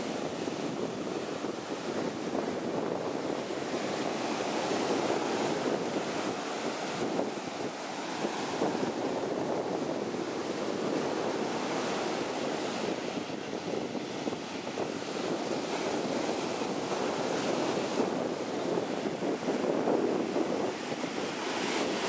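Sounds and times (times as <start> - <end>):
ocean surf washing up beach: 0.0 - 22.0.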